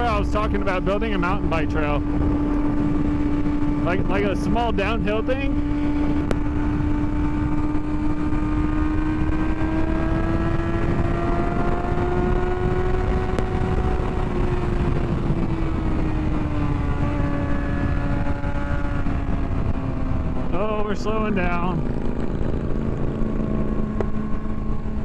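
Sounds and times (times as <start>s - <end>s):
motorcycle engine cruising: 0.0s - 25.0s
wind rush on microphone: 0.0s - 25.0s.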